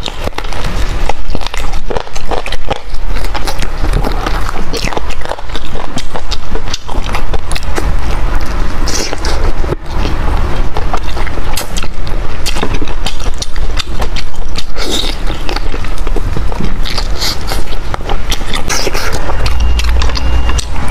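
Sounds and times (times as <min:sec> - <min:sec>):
chewing and lip-smacking: 0:00.0 - 0:20.9.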